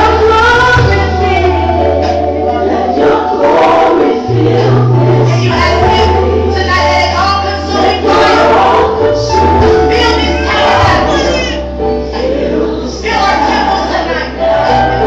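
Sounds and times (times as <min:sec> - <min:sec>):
bass line: 0:00.0 - 0:15.0
gospel choir singing: 0:00.0 - 0:15.0.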